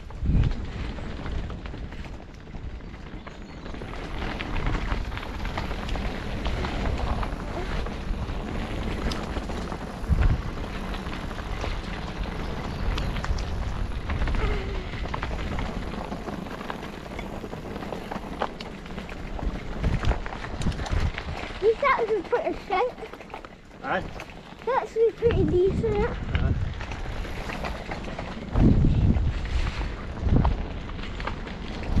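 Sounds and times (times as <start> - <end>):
bike clicks and rattles: 0.0 - 32.0
bike tyres on dirt trail: 0.0 - 32.0
wind rumble on microphone: 0.0 - 32.0.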